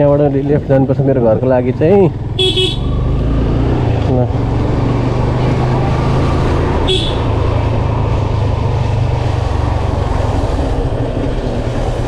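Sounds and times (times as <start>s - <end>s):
motorcycle engine rumble: 0.0s - 12.0s
road and wind noise: 0.0s - 12.0s.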